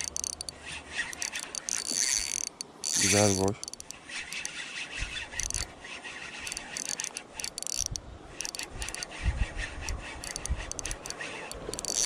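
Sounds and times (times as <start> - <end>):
fishing reel clicking and rattling: 0.0 - 12.0.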